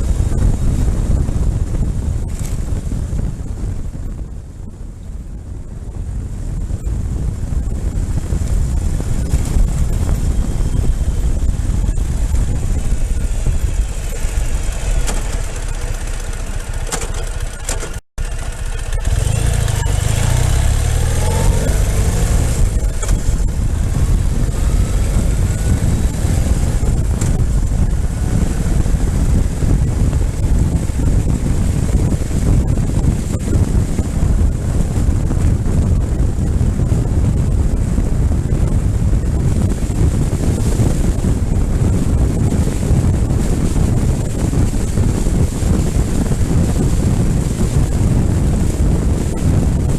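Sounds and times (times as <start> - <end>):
motorcycle engine accelerating: 0.0 - 49.9
wind noise on microphone: 0.0 - 49.9.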